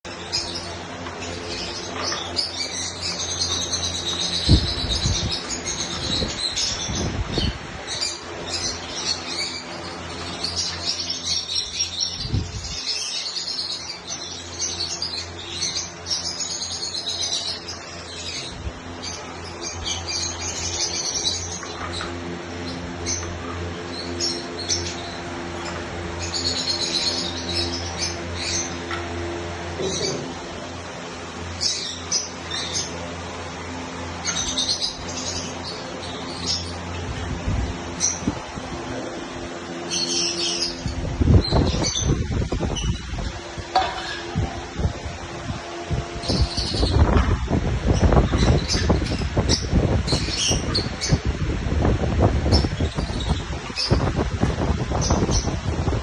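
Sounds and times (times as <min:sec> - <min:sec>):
steady low hum: 0:00.0 - 0:56.0
lovebirds chirping: 0:00.1 - 0:51.4.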